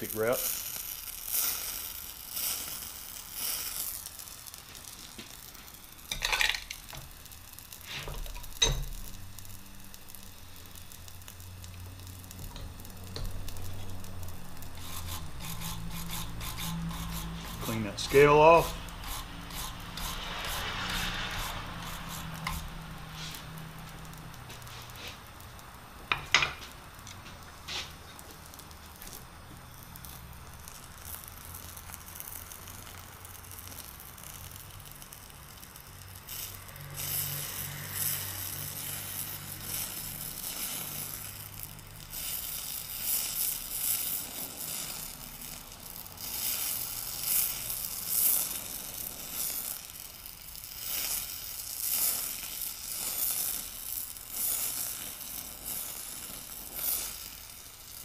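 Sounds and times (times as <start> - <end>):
torch flame hissing and crackling: 0.0 - 58.0.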